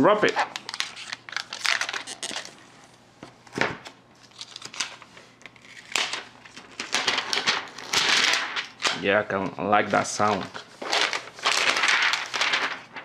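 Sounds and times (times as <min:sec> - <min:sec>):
plastic wrap crinkling: 0:00.2 - 0:02.6, 0:04.2 - 0:09.2, 0:09.8 - 0:13.0.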